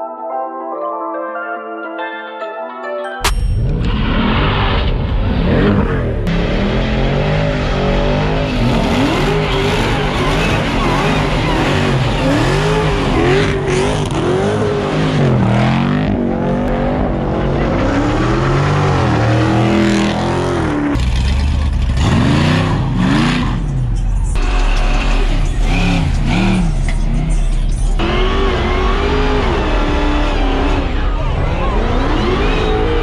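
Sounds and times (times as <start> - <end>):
car engine revving: 3.6 - 33.0.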